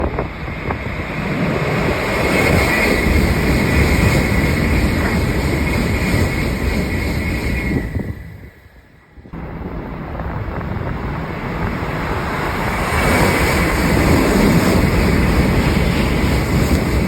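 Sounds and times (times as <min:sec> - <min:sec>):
bullet train rushing past: 0:00.0 - 0:17.0
high whine: 0:00.0 - 0:17.0.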